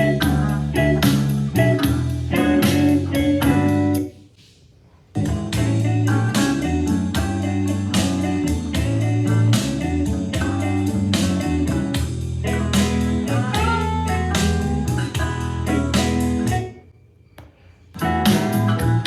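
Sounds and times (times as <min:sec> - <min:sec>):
guitar song over speaker: 0:00.0 - 0:04.2, 0:05.2 - 0:16.8, 0:18.0 - 0:19.0.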